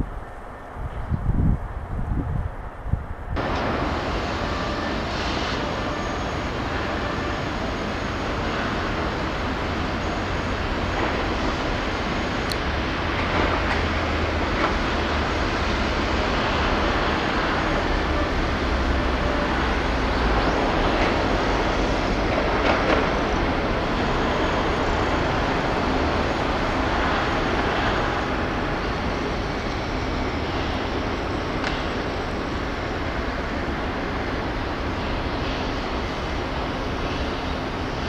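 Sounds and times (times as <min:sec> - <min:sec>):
outdoor rumble and hiss: 0:00.0 - 0:38.0.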